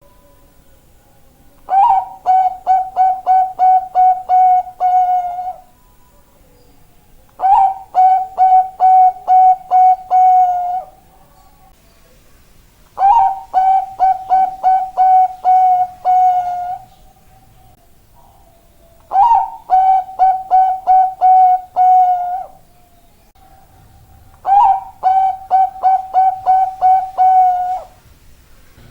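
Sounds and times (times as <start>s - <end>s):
dove cooing song: 1.6s - 6.5s, 7.2s - 11.6s, 13.0s - 28.0s.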